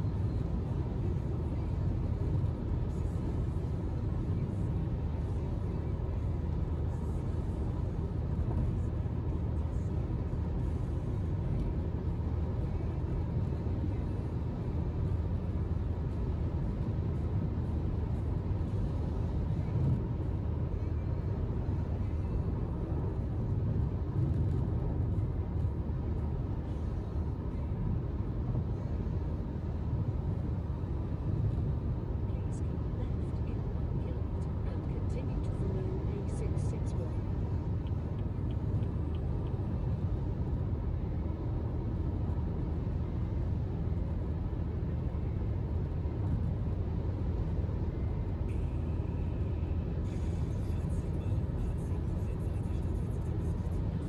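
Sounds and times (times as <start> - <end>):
road rumble inside car: 0.0 - 54.0.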